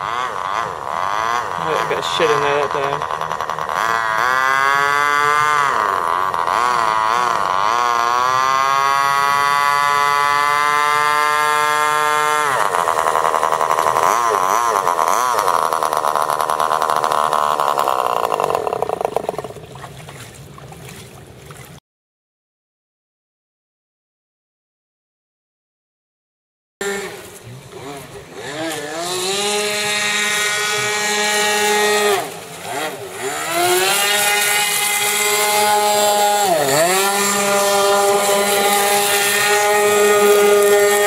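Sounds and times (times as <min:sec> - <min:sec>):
small gas engine screaming: 0:00.0 - 0:19.6, 0:26.8 - 0:41.0.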